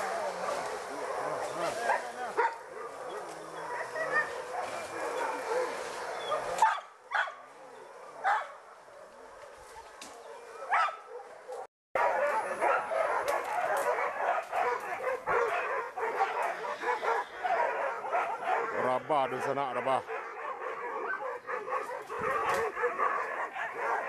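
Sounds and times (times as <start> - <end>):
hunting dogs barking and yelping: 0.0 - 24.0.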